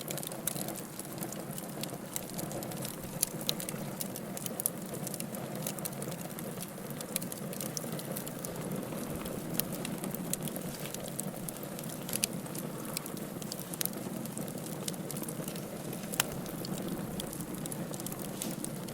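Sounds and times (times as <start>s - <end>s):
wood fire crackling: 0.0s - 18.9s.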